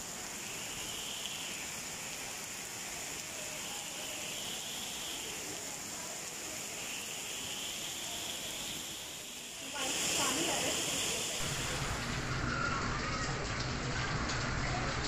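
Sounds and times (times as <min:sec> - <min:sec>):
heavy rain on paving and trees: 0:00.0 - 0:15.0.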